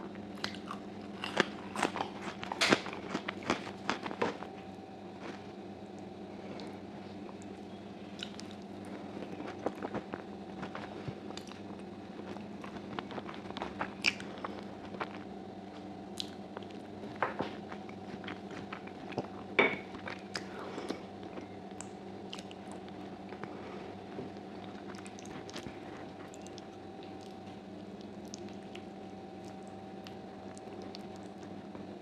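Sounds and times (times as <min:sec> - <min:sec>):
wet chewing: 0:00.2 - 0:04.6, 0:05.2 - 0:31.8.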